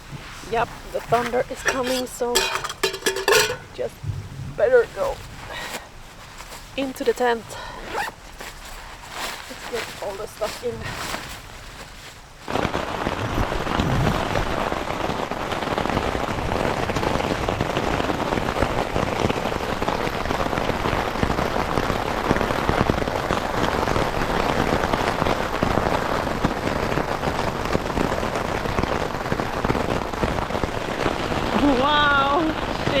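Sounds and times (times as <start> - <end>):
heavy rain on tent fabric: 0.0 - 33.0.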